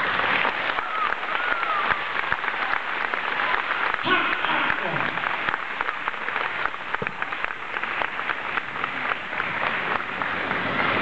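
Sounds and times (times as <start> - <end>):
children applauding: 0.0 - 11.0.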